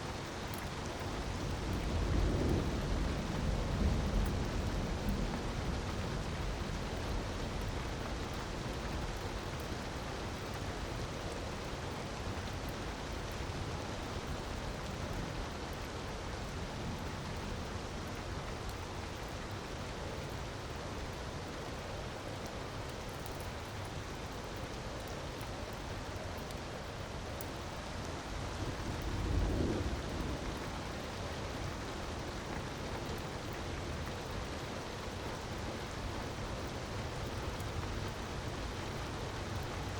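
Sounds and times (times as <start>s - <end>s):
rushing falling water: 0.0s - 39.9s.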